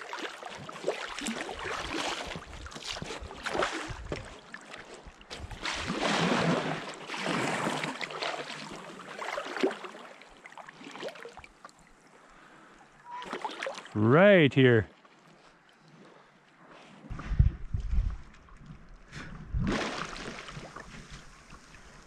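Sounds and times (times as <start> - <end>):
paddle strokes splashing water: 0.0 - 14.0, 18.2 - 22.0.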